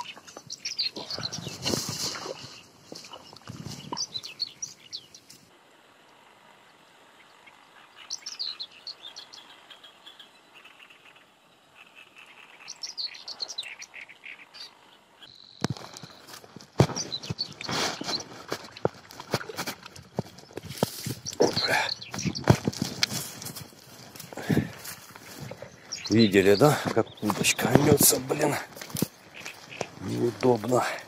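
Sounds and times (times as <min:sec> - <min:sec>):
small birds chirping: 0:00.0 - 0:05.5, 0:06.6 - 0:31.0.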